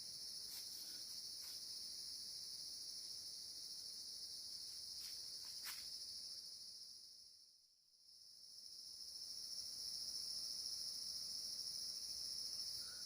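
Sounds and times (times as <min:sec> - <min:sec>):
forest insects chorus: 0:00.0 - 0:13.0.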